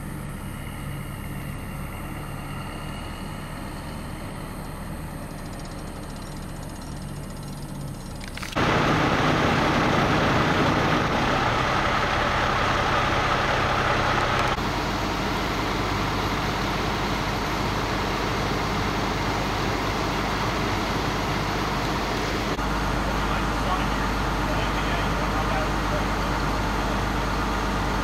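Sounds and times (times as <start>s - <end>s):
heavy vehicle engine idling: 0.0s - 28.0s.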